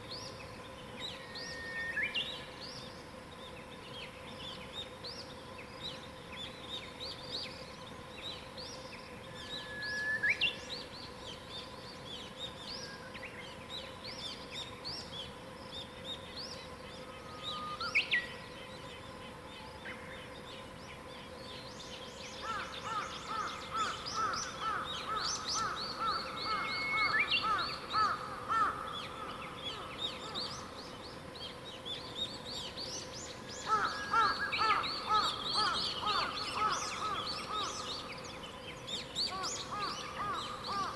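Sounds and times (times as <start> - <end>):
faint steady hum: 0.0 - 40.9
songbirds chirping: 0.0 - 40.9.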